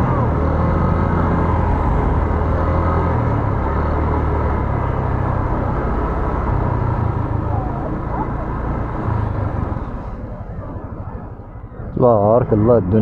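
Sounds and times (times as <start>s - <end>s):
car rumbling on the move: 0.0s - 13.0s
street noise: 0.0s - 13.0s.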